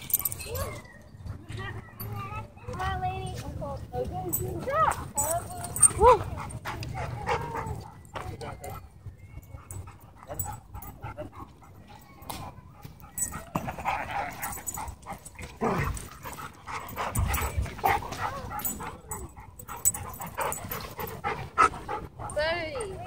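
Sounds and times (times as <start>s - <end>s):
dogs barking and yipping: 0.0s - 2.5s, 4.4s - 23.0s.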